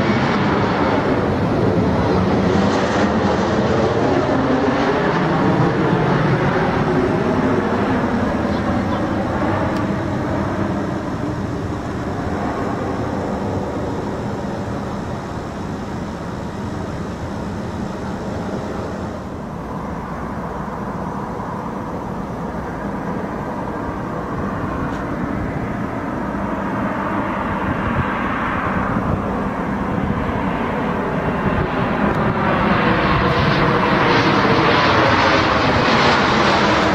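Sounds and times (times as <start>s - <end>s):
jet airliner engine rumble and whine: 0.0s - 36.9s.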